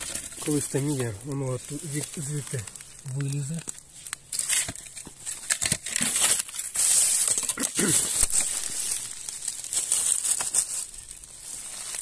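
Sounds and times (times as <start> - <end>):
dry leaves and twigs crackling: 0.0 - 12.0.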